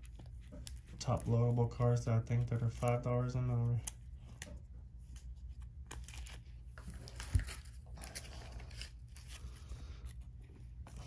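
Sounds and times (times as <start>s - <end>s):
trading cards rustling and clicking: 0.0s - 11.0s.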